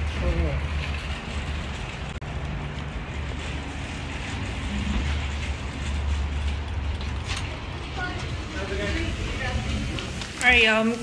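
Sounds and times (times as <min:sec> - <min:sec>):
street noise rumble and hiss: 0:00.0 - 0:11.0.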